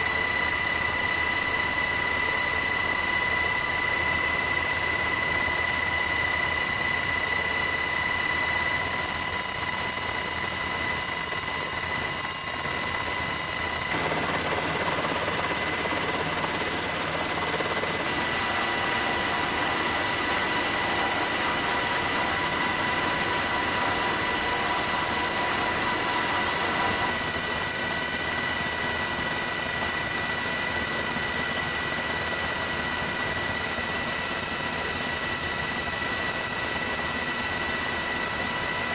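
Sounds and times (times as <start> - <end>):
turbine whine: 0.0 - 38.9.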